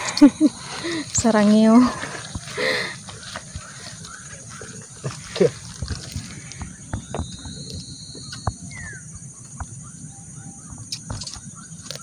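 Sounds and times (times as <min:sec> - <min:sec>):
bird chirp: 0:00.0 - 0:12.0
insect drone: 0:00.0 - 0:12.0.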